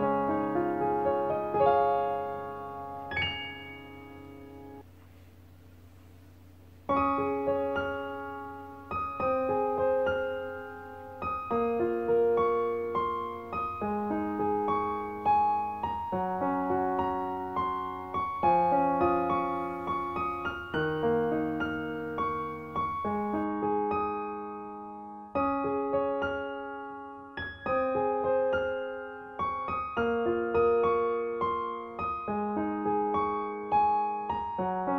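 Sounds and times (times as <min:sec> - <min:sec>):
slow gentle piano melody: 0:00.0 - 0:34.9.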